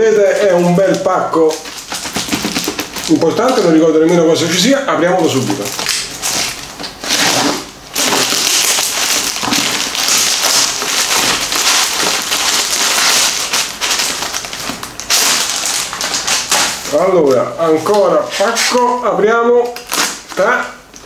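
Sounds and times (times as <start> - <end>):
plastic bag tearing and crinkling: 0.0 - 20.8.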